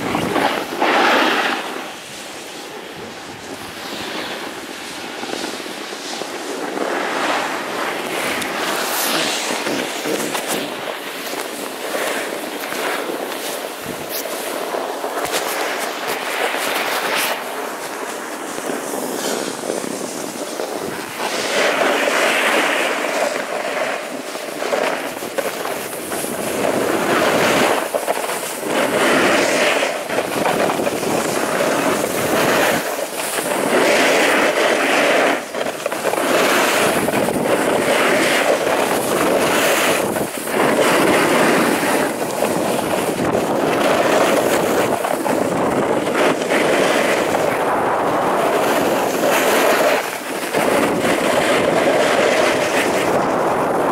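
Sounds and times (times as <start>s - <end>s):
ski edges scraping snow: 0.0s - 53.9s
wind buffeting microphone: 0.0s - 53.9s.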